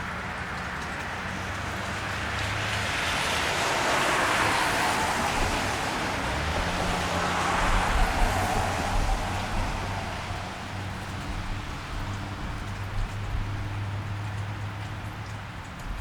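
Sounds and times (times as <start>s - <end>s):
approaching vehicle rumble: 0.0s - 16.0s
low engine rumble: 0.0s - 16.0s
tyres hissing on wet road: 0.0s - 16.0s.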